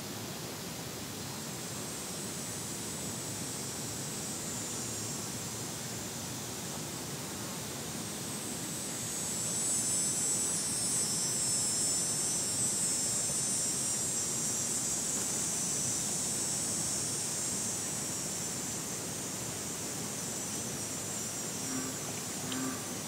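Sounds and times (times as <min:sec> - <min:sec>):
cicada buzzing: 0:00.8 - 0:23.0.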